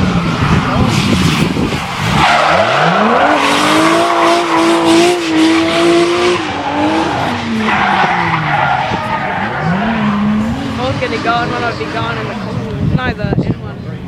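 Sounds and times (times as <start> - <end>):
tyres skidding and squealing: 0.0 - 12.6
car engine revving: 0.0 - 13.0.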